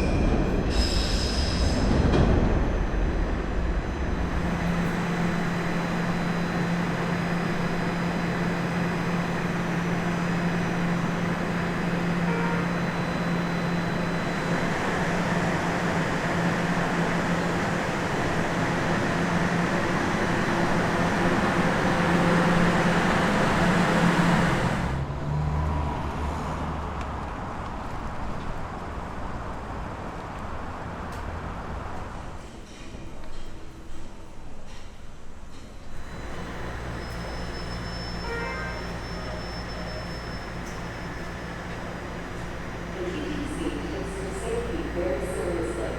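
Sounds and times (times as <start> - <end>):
subway train rumbling on track: 0.0 - 45.9.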